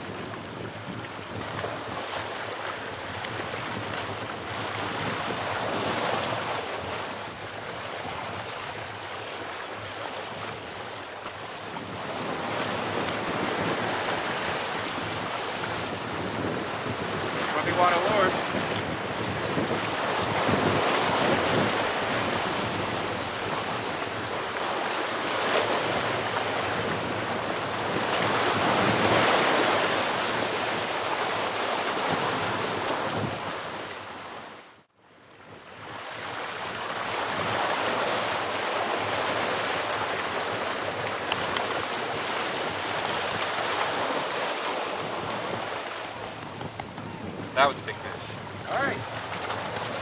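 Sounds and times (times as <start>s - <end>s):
wind buffeting microphone: 0.0s - 9.1s, 9.7s - 34.5s, 35.4s - 50.0s
surf washing over rocks: 0.0s - 34.8s, 35.7s - 50.0s.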